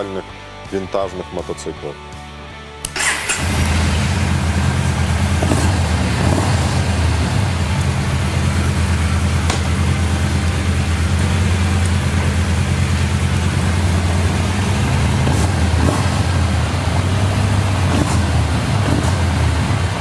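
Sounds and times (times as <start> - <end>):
motorcycle engine running: 2.9 - 20.0.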